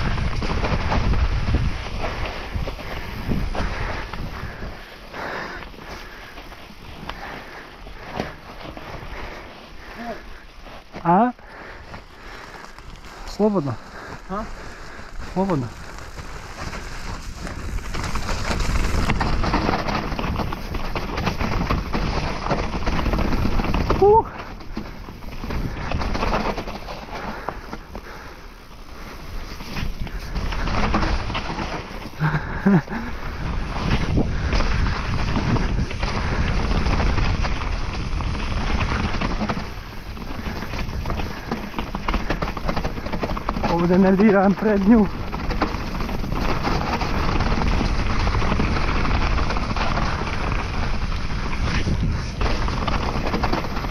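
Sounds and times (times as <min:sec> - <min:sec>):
bike tyres and frame clattering: 0:00.0 - 0:53.9
wind buffeting microphone: 0:00.0 - 0:53.9.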